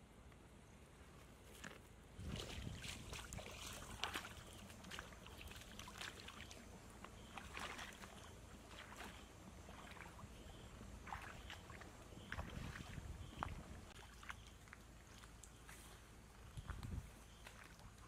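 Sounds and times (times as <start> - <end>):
feet splashing in stream: 1.6 - 18.0.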